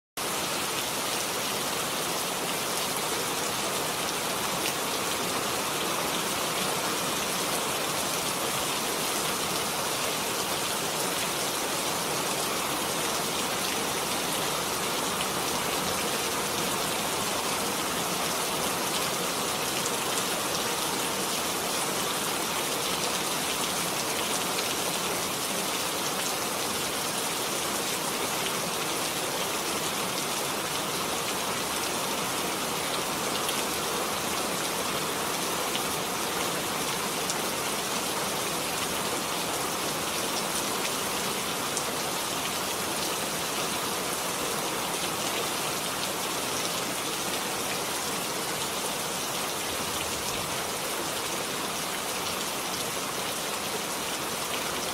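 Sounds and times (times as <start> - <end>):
rain falling on a surface: 0.2 - 54.9.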